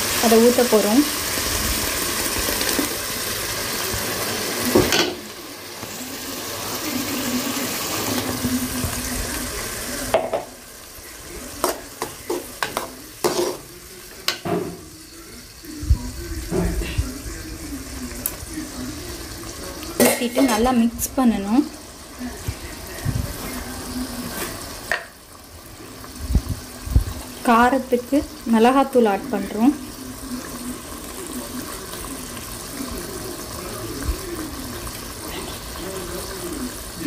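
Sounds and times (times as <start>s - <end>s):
tomato puree sizzling in pan: 0.0s - 37.0s.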